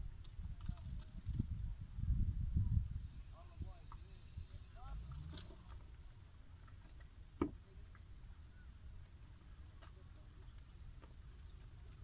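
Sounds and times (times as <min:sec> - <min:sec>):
faint low shoreline rumble: 0:00.0 - 0:12.0.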